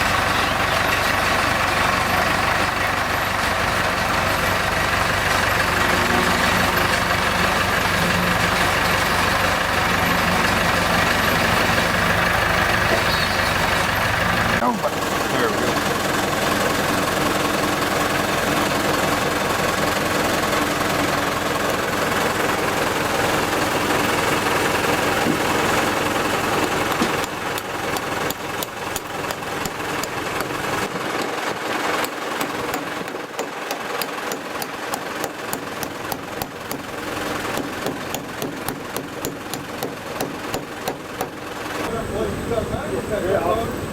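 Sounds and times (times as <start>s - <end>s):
fast regular machinery ticking: 0.0s - 43.2s
tractor engine running: 0.0s - 43.9s.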